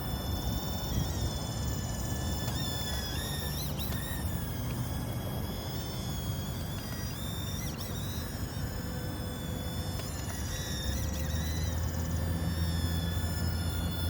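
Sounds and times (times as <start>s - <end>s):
toy drone motors whining: 0.0s - 14.0s.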